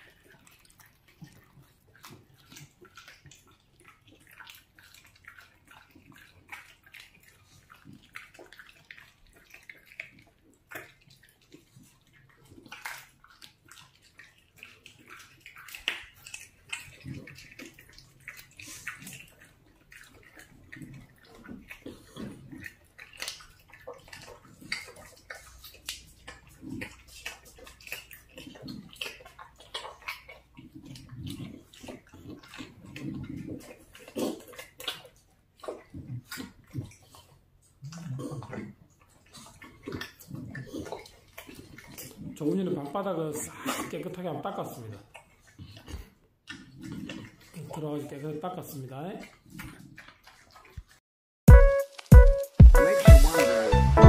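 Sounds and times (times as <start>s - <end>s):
dogs chewing and licking: 0.0s - 51.0s.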